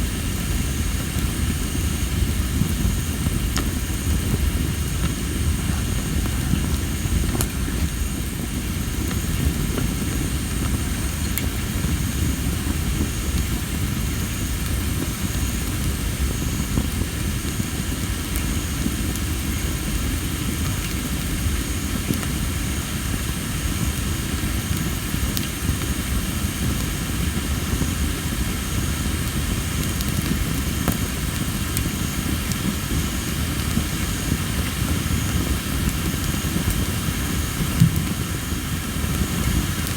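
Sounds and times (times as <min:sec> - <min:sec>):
campfire burning and crackling: 0:00.0 - 0:39.9
insects chirping: 0:00.0 - 0:39.9.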